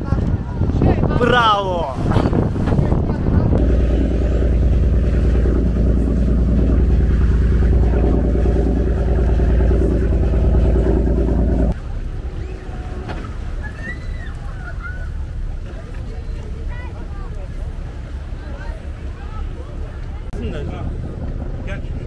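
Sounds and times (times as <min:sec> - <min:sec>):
boat engine droning: 0:03.2 - 0:22.0.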